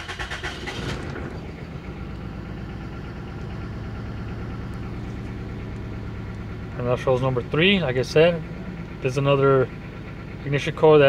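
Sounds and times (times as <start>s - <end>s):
car engine idling unevenly: 0.0s - 11.0s.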